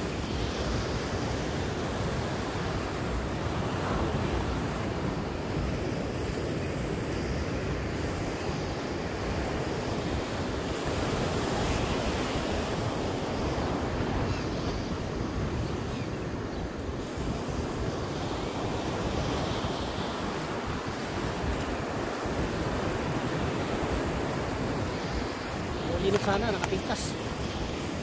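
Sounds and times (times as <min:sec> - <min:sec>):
ocean surf breaking on beach: 0:00.0 - 0:28.0
wind rumbling on microphone: 0:00.0 - 0:28.0.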